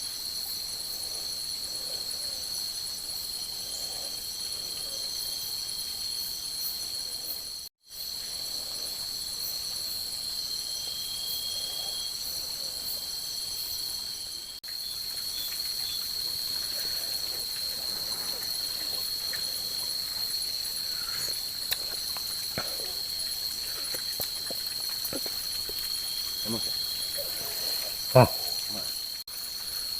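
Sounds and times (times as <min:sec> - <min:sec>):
crickets and insects chirping: 0:00.0 - 0:29.9.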